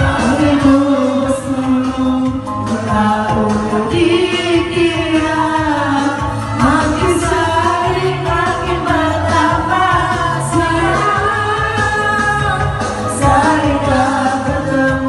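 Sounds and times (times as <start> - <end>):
pop backing music with bass beat: 0.0 - 15.0
woman singing through loudspeaker: 0.0 - 15.0.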